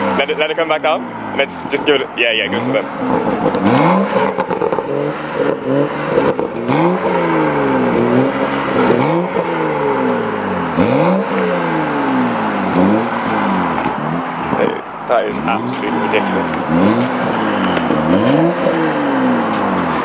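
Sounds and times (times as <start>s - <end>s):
car engine revving: 0.0s - 20.0s
exhaust pops: 0.0s - 20.0s.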